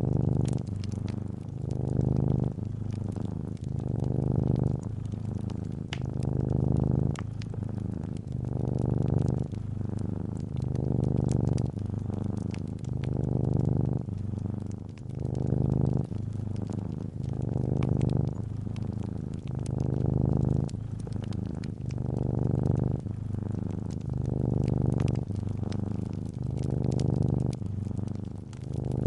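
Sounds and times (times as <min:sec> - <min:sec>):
cat purring: 0:00.0 - 0:29.0
fireplace fire crackling: 0:00.0 - 0:29.0.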